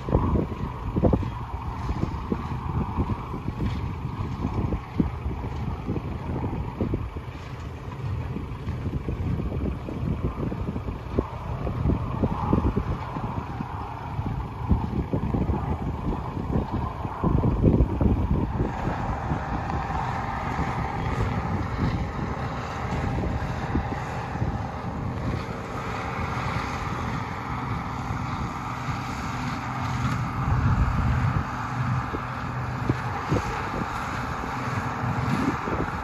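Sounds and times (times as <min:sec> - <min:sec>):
tractor diesel engine under load: 0:00.0 - 0:36.0
wind rumbling on microphone: 0:00.0 - 0:36.0.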